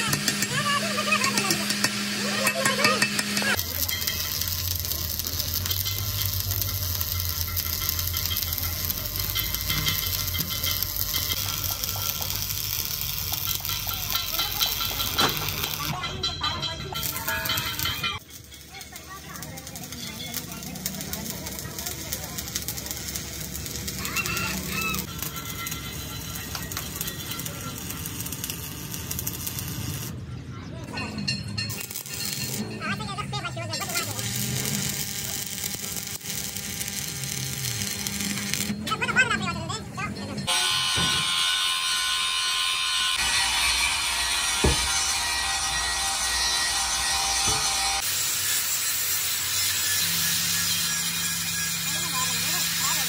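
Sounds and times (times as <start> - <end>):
welding arc crackling: 0.0 - 30.2, 31.3 - 39.4, 40.4 - 53.0.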